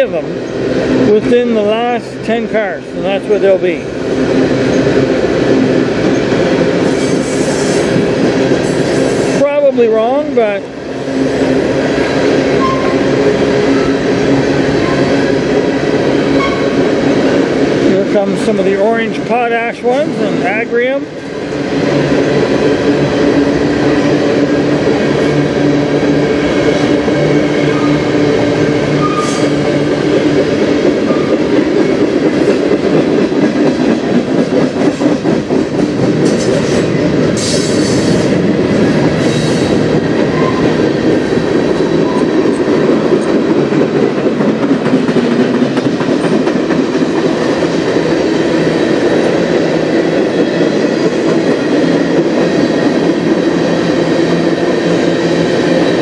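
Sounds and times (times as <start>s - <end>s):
train wheels rumbling on rail: 0.0s - 56.0s
clickety-clack over rail joints: 0.1s - 56.0s.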